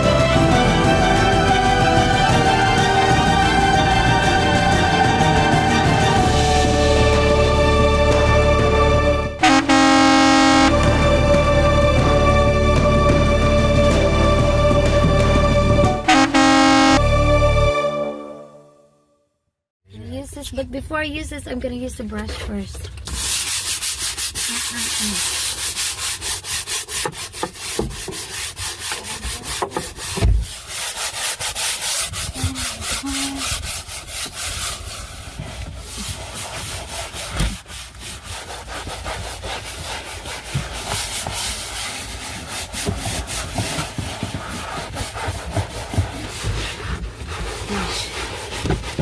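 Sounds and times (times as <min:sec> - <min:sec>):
stiff brush scrubbing floor: 0:00.0 - 0:18.1, 0:23.0 - 0:49.0.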